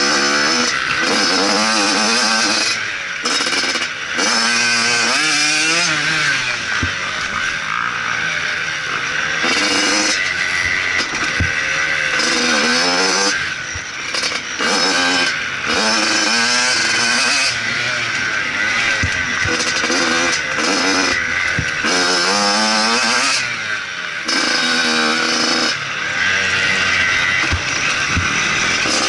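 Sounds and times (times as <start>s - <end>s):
motocross engine revving: 0.0s - 29.0s.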